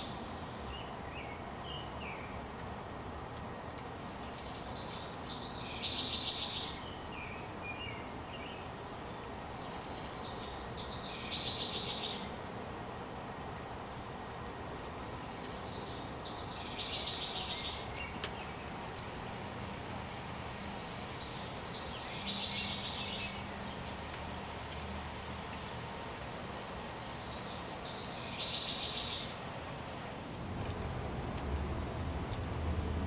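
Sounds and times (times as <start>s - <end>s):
songbird singing: 0.0s - 2.5s, 3.5s - 12.4s, 14.8s - 33.0s
outdoor background noise: 0.0s - 33.0s.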